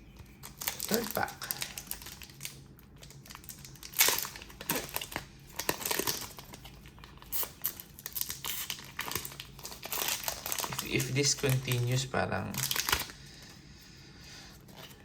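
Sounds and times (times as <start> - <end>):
foil wrapper crinkling: 0.1 - 13.2.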